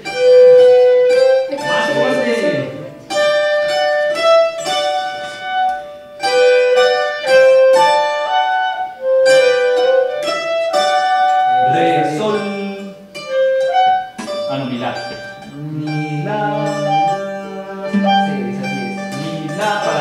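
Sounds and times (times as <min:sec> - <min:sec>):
plucked string ensemble melody: 0:00.0 - 0:20.0.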